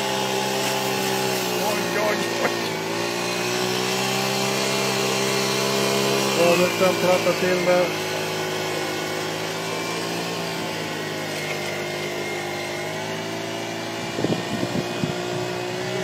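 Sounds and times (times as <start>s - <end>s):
model loader motor whine: 0.0s - 16.0s.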